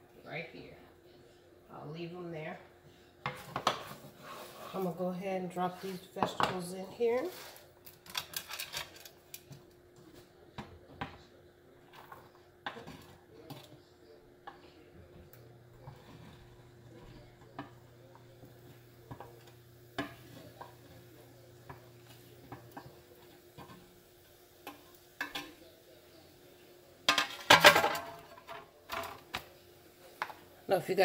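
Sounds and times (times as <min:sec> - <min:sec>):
utensil stirring in pan: 0:03.2 - 0:27.4, 0:28.2 - 0:31.0.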